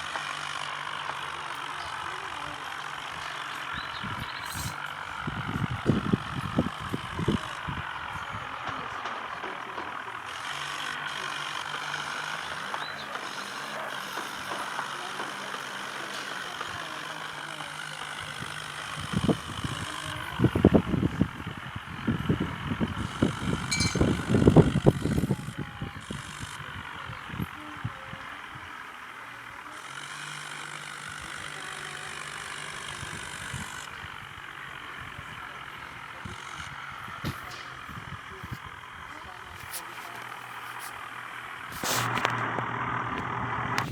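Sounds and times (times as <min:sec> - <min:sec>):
tractor diesel engine humming: 0:00.0 - 0:43.9.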